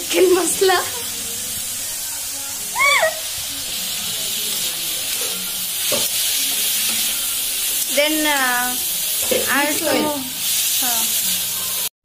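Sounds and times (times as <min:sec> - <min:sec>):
vegetables sizzling in hot oil: 0:00.0 - 0:11.9.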